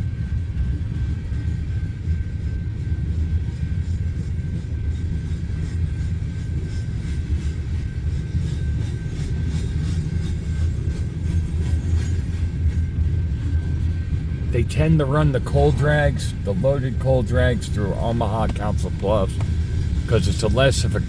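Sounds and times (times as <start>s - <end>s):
train cars rumbling past: 0.0s - 21.0s.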